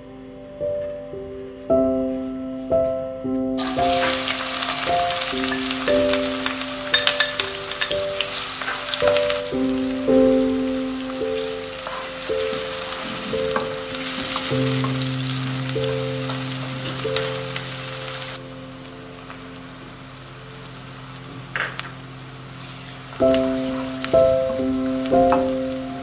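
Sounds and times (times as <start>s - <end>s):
soft background music: 0.0s - 26.0s
onions sizzling in oil: 3.6s - 26.0s.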